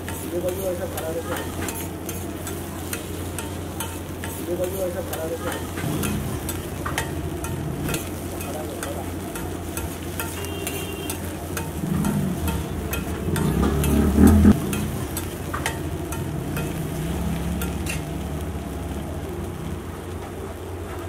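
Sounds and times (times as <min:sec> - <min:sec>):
food sizzling in oil: 0:00.0 - 0:20.9
metal spatula scraping griddle: 0:00.1 - 0:18.2.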